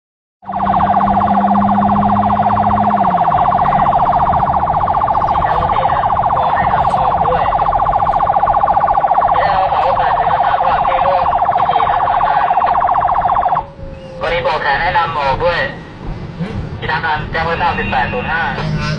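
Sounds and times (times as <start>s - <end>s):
pulsing electronic siren: 0.4s - 16.2s.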